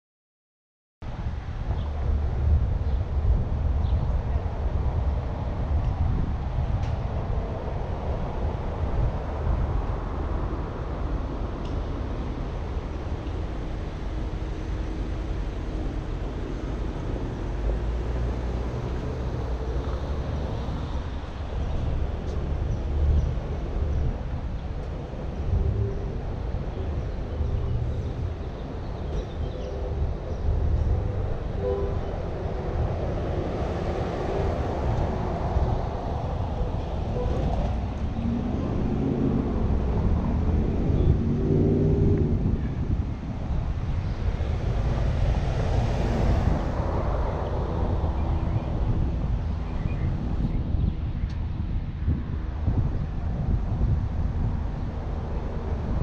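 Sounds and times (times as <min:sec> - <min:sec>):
car driving road noise: 0:01.1 - 0:56.0.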